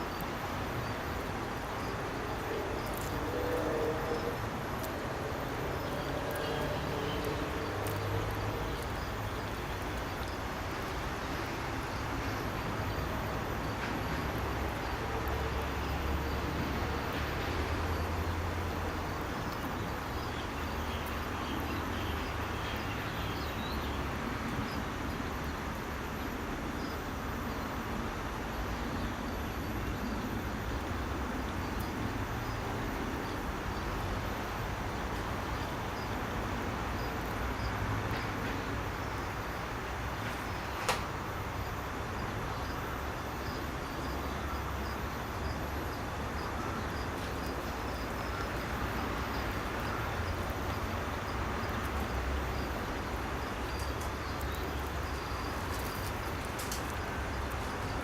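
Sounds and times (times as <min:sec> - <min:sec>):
low rumble and hiss: 0:00.0 - 0:58.0.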